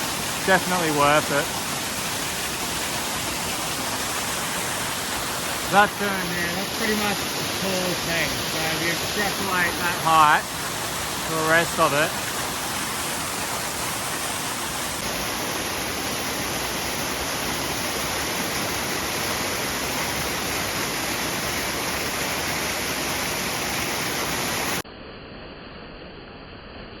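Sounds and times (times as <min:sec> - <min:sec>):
dull hiss: 0:00.0 - 0:24.8
waterfall roaring: 0:00.0 - 0:24.8.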